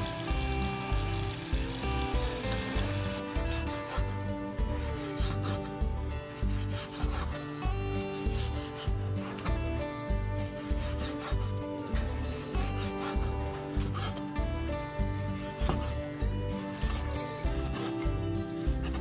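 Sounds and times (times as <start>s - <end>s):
music with steady beat: 0.0s - 19.0s
cleaver slicing meat: 0.2s - 14.4s, 15.0s - 19.0s.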